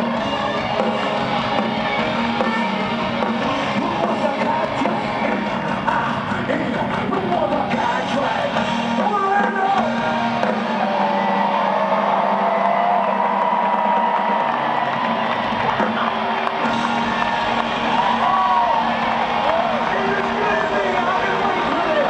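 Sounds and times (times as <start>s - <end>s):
live metal band playing: 0.0s - 22.0s.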